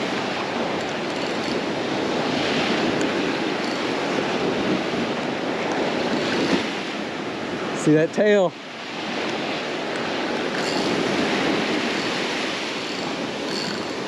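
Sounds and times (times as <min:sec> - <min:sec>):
wind noise on microphone: 0:00.0 - 0:07.9, 0:08.6 - 0:14.0
surf breaking on beach: 0:00.0 - 0:14.0.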